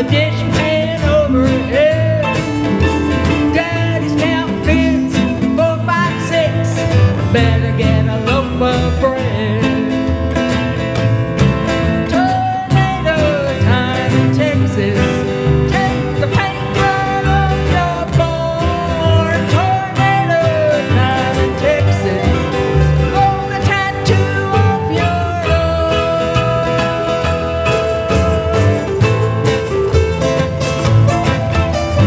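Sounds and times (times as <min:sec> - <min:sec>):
bass: 0:00.0 - 0:32.0
sliding lead melody: 0:00.0 - 0:32.0
strummed acoustic guitar: 0:00.0 - 0:32.0.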